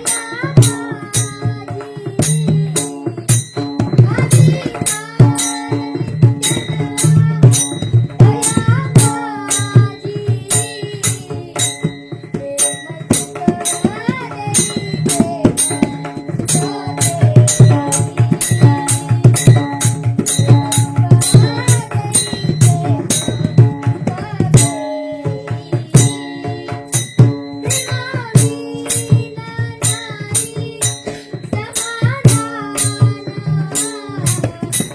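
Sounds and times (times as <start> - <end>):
drum beat: 0.0 - 34.9
person singing devotional song: 0.0 - 34.9.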